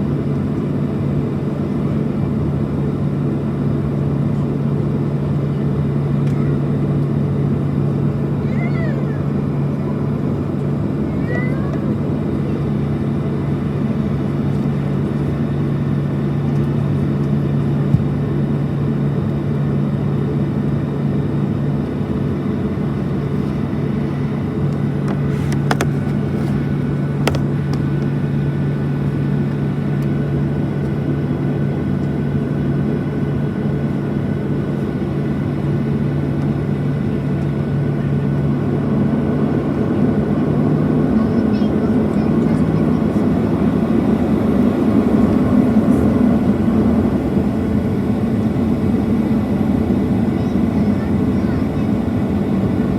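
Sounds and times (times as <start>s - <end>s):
jet engine drone in cabin: 0.0s - 52.9s.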